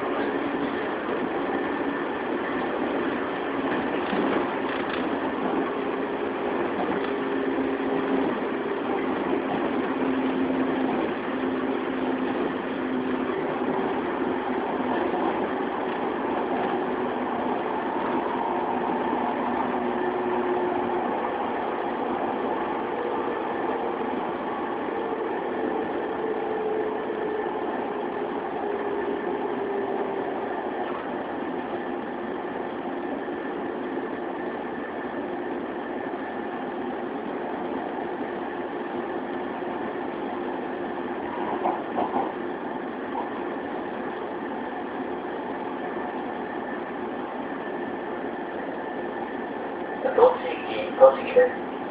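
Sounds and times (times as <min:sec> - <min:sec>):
train wheels rolling on rails: 0:00.0 - 0:51.9.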